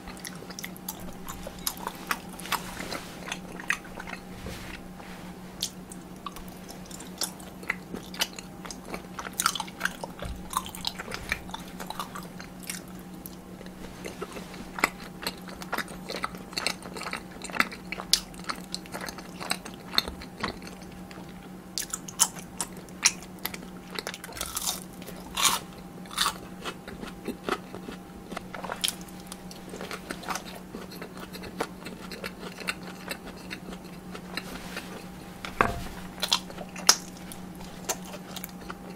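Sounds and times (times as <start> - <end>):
crunching and chewing: 0.0 - 38.9
steady low hum: 0.0 - 38.9.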